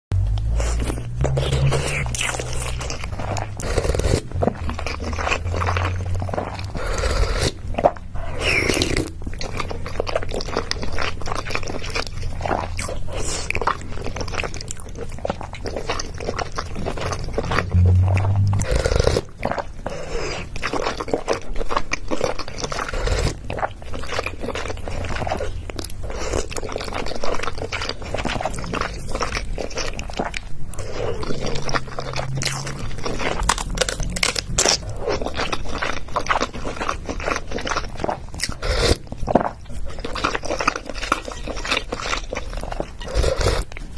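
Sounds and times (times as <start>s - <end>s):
crunchy food being chewed: 0.2s - 17.8s, 18.6s - 43.9s.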